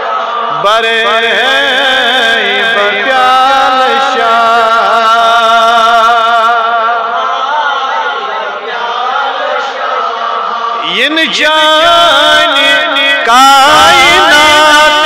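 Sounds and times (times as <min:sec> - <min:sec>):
man chanting through loudspeaker: 0:00.0 - 0:15.0.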